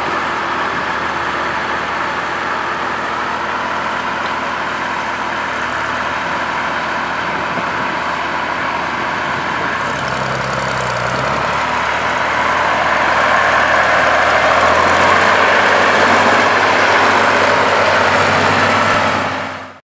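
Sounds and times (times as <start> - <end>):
tractor engine running: 0.0 - 19.8.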